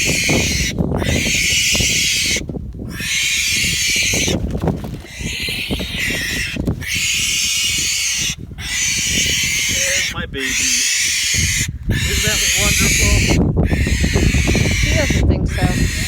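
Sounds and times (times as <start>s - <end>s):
owl hissing screeches: 0.0s - 4.4s, 5.1s - 16.0s.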